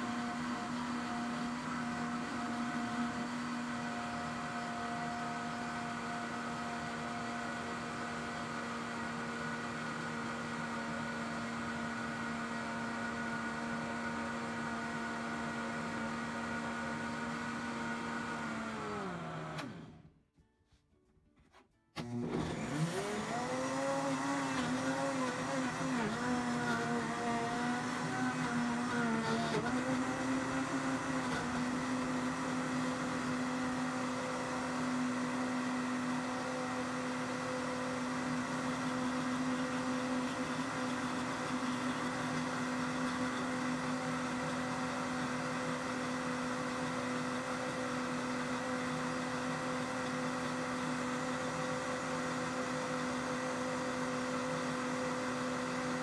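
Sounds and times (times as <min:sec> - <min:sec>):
blender motor blending: 0:00.0 - 0:20.1, 0:22.0 - 0:56.0.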